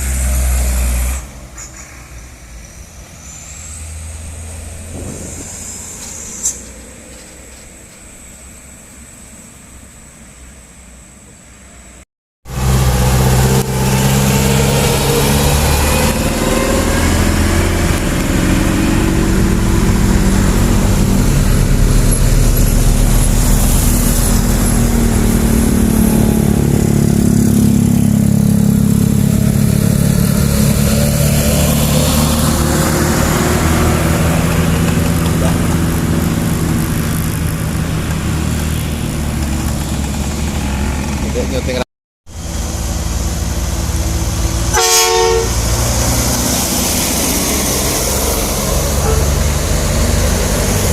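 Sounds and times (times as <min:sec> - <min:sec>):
truck engine climbing uphill: 0:00.0 - 0:01.6, 0:02.3 - 0:50.9.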